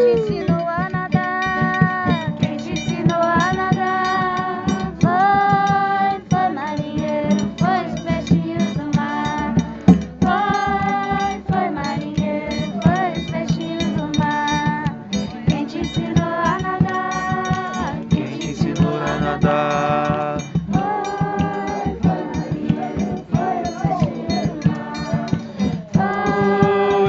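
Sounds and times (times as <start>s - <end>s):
strummed acoustic guitar: 0.0s - 27.0s
voices singing: 0.0s - 27.0s.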